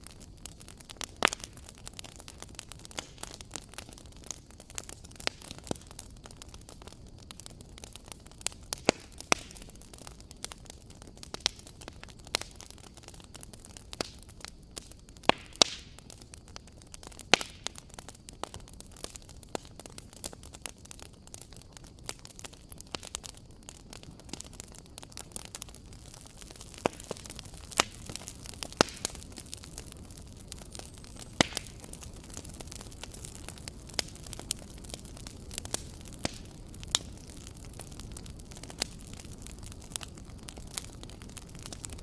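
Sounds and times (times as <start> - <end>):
fire hiss: 0.0 - 42.0
wood fire crackling and popping: 0.0 - 42.0.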